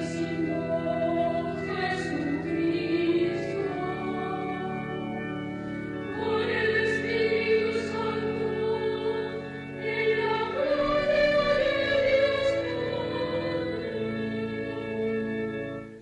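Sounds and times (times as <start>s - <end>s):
choir singing sustained notes: 0.0s - 16.0s.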